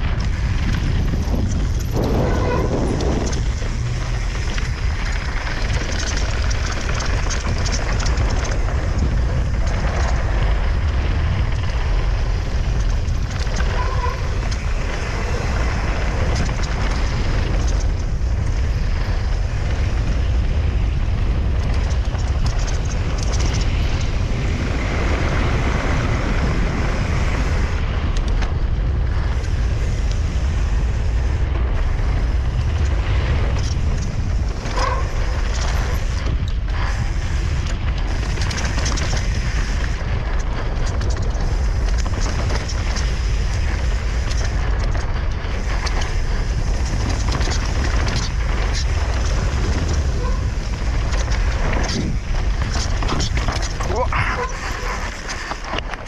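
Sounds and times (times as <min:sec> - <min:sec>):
bike clicks and knocks: 0:00.0 - 0:56.0
tyres on loose dirt: 0:00.0 - 0:56.0
wind rushing over microphone: 0:00.0 - 0:56.0.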